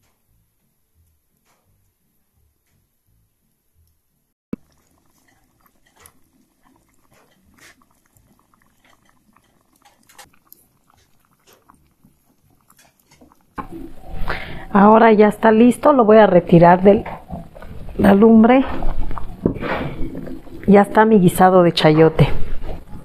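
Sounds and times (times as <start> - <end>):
stew simmering pops and crackles: 0.0 - 23.0.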